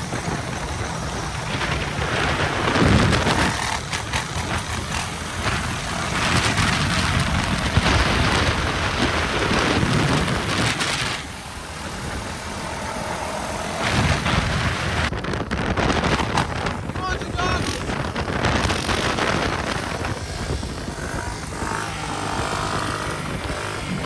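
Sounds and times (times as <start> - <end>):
motorbike running: 0.0 - 24.0
wind buffeting microphone: 0.0 - 24.0.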